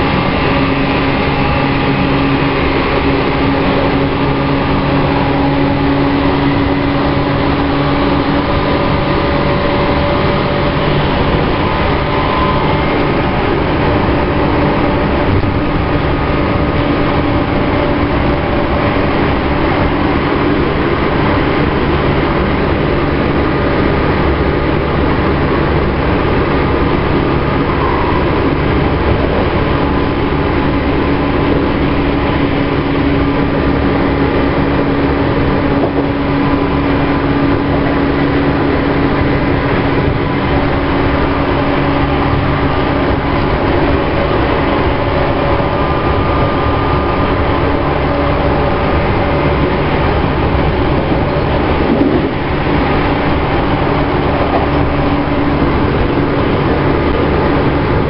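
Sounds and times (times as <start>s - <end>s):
traction motor hum: 0.0s - 58.0s
train wheels rumbling: 0.0s - 58.0s.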